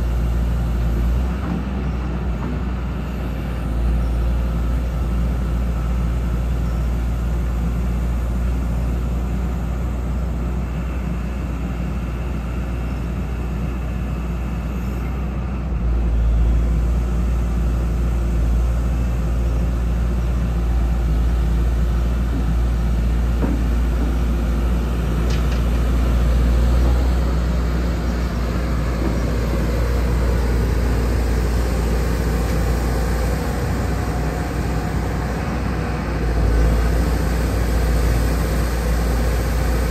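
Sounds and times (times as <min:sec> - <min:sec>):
diesel engine droning under load: 0:00.0 - 0:39.9.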